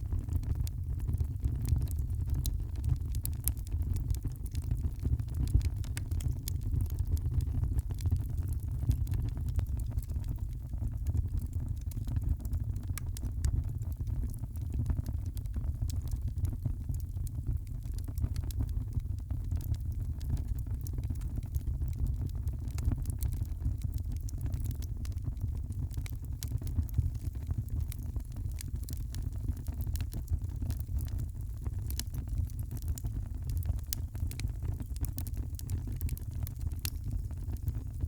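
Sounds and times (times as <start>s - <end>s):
low fire rumble: 0.0s - 38.0s
wood fire crackling: 0.0s - 38.0s.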